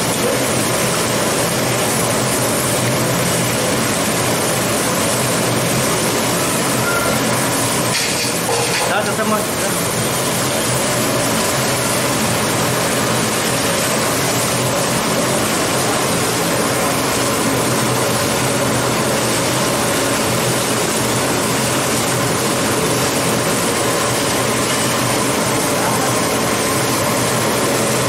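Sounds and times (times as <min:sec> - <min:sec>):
mechanical hum and hiss: 0:00.0 - 0:28.0.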